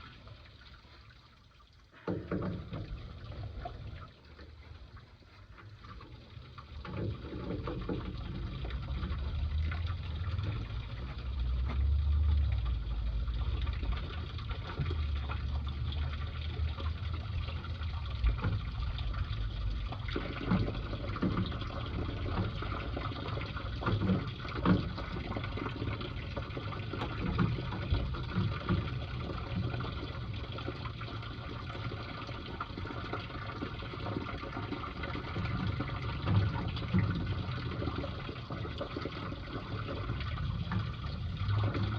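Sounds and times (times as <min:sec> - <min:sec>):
water running and splashing: 0:00.0 - 0:41.9.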